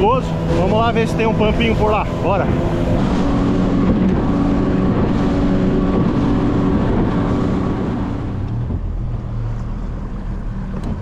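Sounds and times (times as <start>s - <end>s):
outboard motor running: 0.0s - 11.0s
water rushing: 0.0s - 11.0s
wind: 0.0s - 11.0s.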